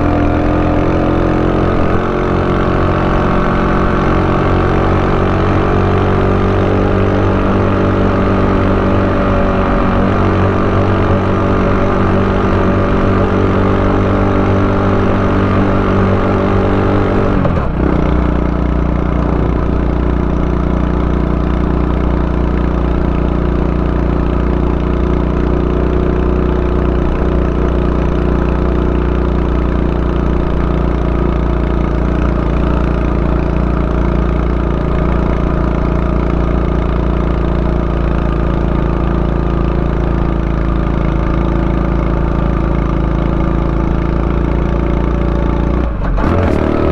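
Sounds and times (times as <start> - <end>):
small motorcycle engine running: 0.0 - 46.9.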